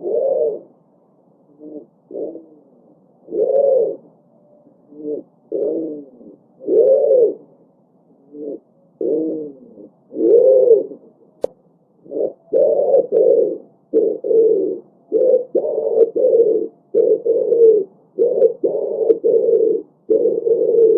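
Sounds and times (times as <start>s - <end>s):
pigeons cooing: 0.0s - 11.4s, 12.0s - 20.9s.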